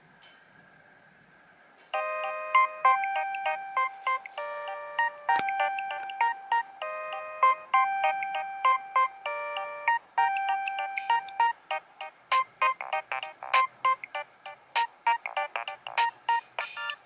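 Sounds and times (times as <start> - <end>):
polyphonic phone ringtone: 2.0 - 17.0.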